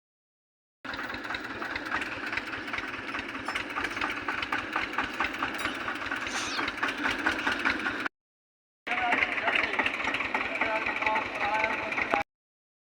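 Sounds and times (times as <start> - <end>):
tractor engine running: 0.9 - 8.1, 8.9 - 12.2.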